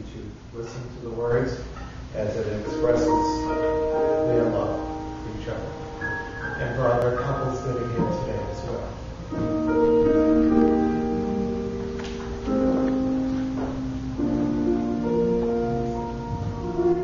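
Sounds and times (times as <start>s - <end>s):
keyboard playing slow chords: 2.5s - 17.0s.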